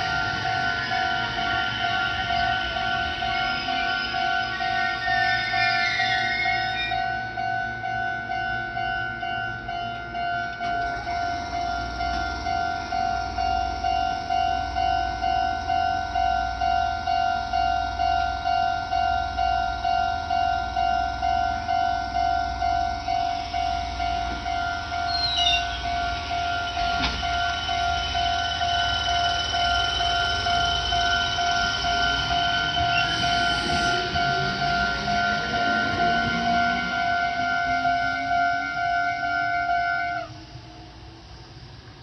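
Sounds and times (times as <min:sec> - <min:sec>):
level-crossing warning bell: 0:00.0 - 0:42.0
train rumbling past: 0:00.0 - 0:42.0
train squeal: 0:00.0 - 0:42.0.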